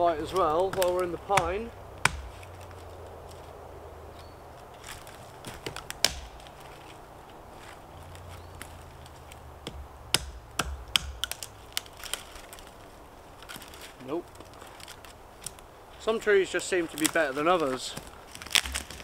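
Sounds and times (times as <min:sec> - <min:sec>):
dry branches snapping: 0:00.0 - 0:19.0.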